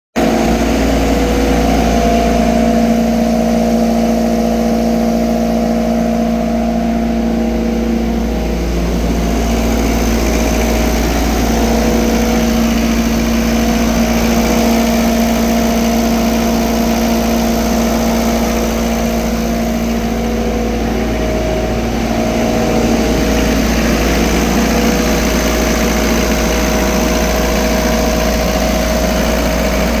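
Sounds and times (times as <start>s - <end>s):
diesel generator running: 0.2s - 30.0s.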